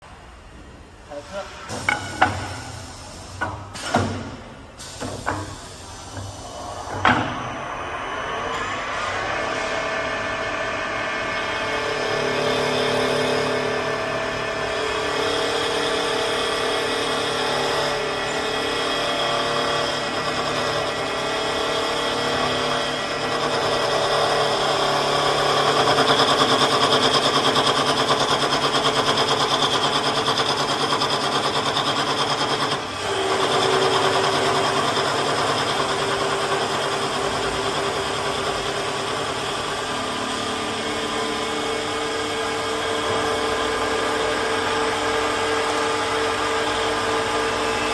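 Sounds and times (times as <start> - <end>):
wood lathe whining: 7.3 - 47.9.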